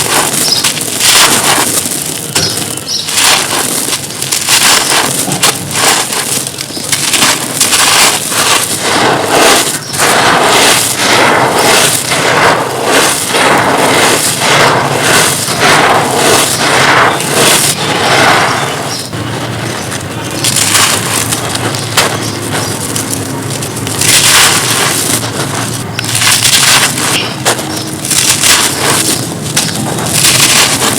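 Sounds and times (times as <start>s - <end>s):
crumbly stone being crushed: 0.0s - 30.9s.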